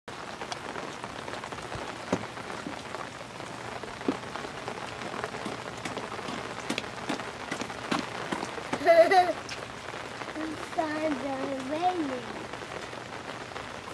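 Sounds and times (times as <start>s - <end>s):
steady rain falling: 0.1s - 13.9s.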